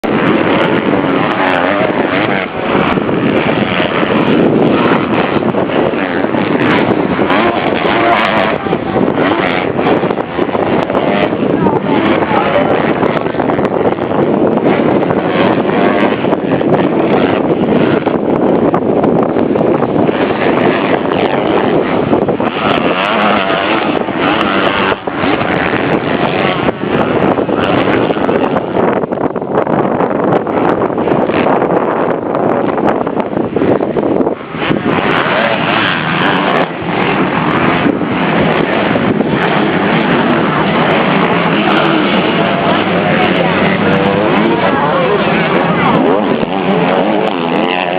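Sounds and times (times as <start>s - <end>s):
motorcycle engines revving: 0.0s - 47.9s.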